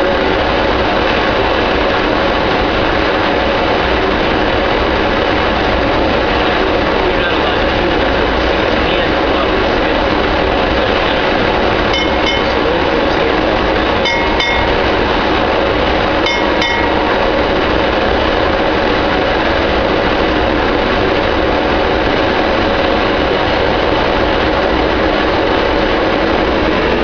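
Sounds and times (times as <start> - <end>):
jet engines running loud: 0.0 - 27.0.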